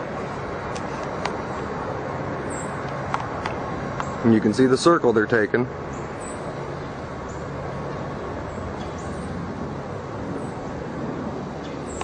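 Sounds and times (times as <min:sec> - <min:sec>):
helicopter rotor drone: 0:00.0 - 0:12.0.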